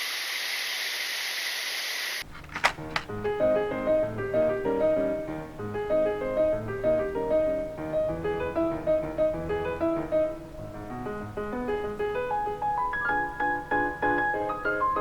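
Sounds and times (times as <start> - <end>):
piano melody over chords: 2.9 - 15.0.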